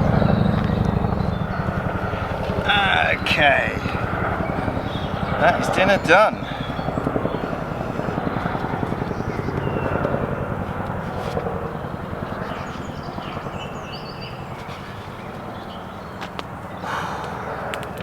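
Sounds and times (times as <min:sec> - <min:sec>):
helicopter rotor beating: 0:00.0 - 0:18.0.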